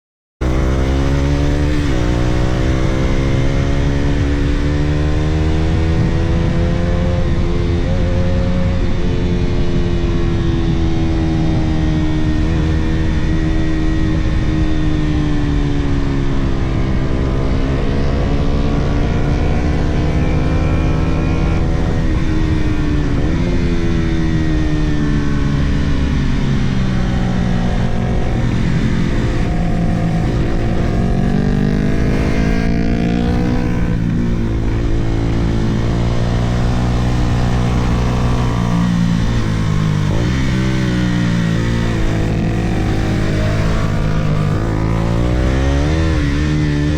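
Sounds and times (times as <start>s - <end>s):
motorcycle engine revving: 0.4s - 46.9s
wind rumble: 0.4s - 46.9s.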